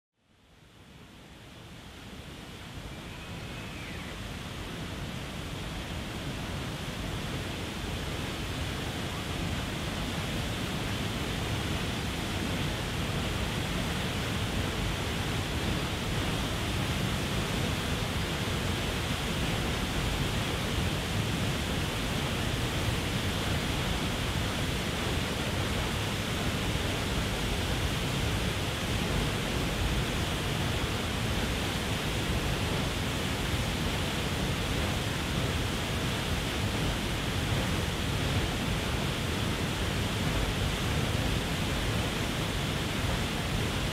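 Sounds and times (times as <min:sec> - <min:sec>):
waterfall rushing: 0:02.3 - 0:43.9.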